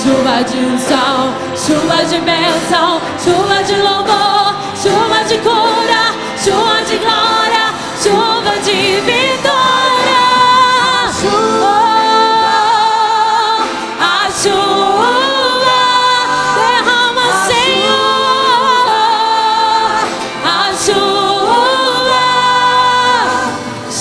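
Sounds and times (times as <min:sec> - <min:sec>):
backing music: 0:00.0 - 0:24.0
worship singers singing gospel: 0:00.0 - 0:24.0.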